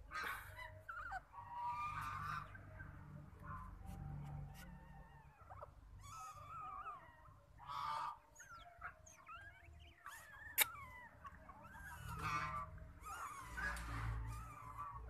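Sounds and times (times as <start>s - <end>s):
otter pups squeaking: 0.0s - 15.0s.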